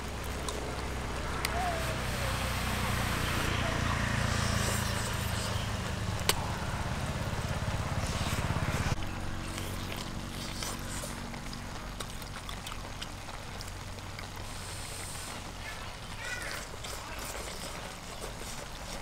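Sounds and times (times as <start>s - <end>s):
low engine hum: 0.0s - 16.1s.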